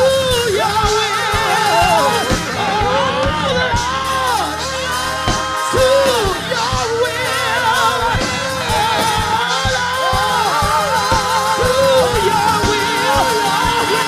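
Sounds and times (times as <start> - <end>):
church band playing: 0.0 - 14.0
voices singing held notes: 0.0 - 14.0.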